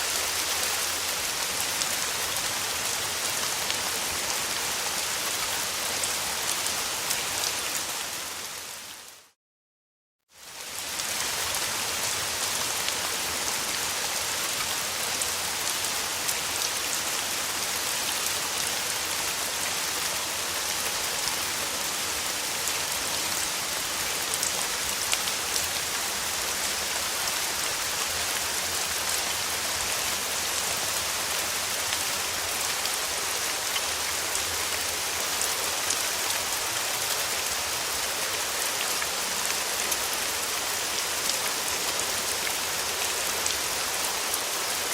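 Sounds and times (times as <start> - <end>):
steady rain falling: 0.0 - 9.4, 10.3 - 44.9.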